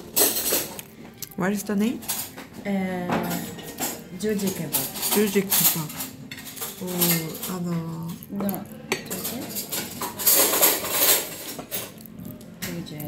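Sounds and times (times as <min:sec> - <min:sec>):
cutlery and plates clattering: 0:00.0 - 0:01.2, 0:01.9 - 0:13.0.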